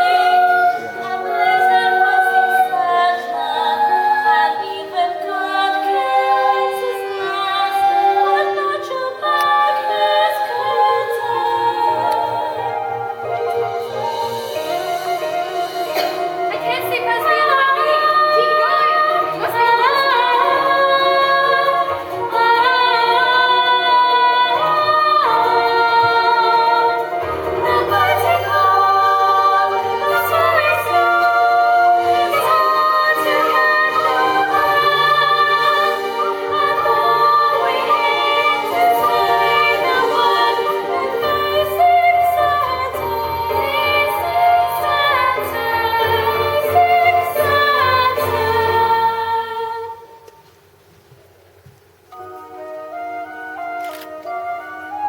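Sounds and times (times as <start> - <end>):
female voices singing: 0.0 - 13.1, 16.4 - 50.2
musical accompaniment: 0.0 - 55.0.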